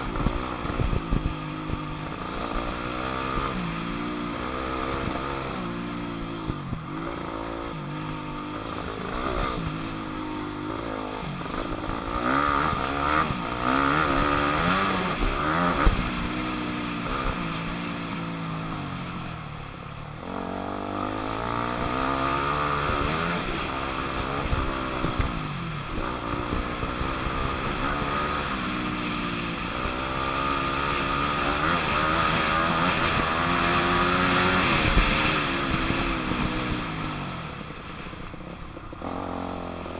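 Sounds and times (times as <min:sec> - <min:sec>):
dirt bike engine revving: 0:00.0 - 0:19.2, 0:20.2 - 0:37.6, 0:38.9 - 0:39.9.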